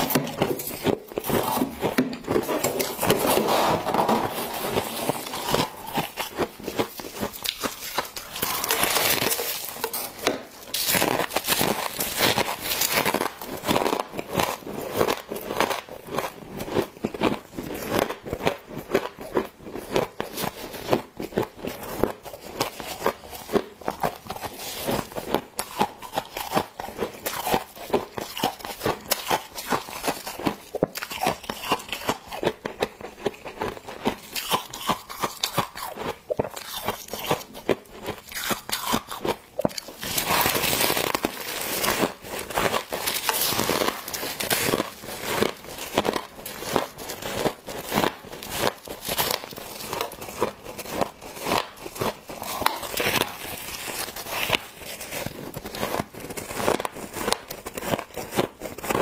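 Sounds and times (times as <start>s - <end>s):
crunching and chewing frost: 0.0s - 59.0s.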